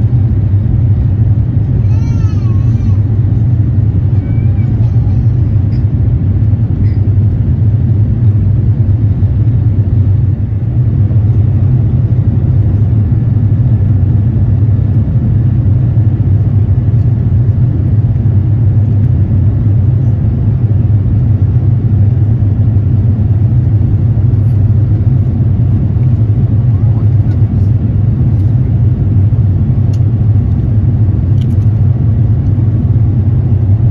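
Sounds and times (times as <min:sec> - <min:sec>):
airplane cabin low rumble: 0:00.0 - 0:33.9.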